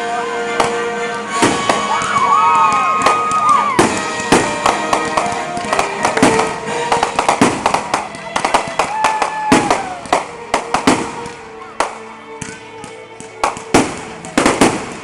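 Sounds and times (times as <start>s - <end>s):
fireworks banging and crackling: 0.5s - 15.0s.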